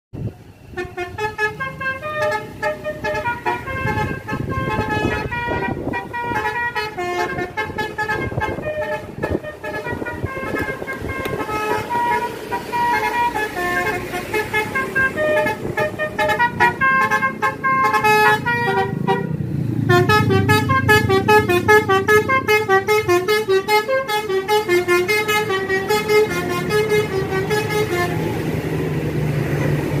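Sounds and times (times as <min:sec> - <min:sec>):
multi-tone bus horn tune: 0:00.6 - 0:28.8.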